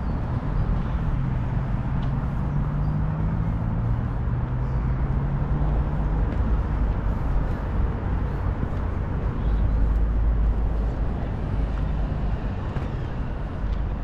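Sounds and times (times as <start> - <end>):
low rumble of traffic: 0.0 - 14.0
passing vehicle engine hum: 0.0 - 14.0.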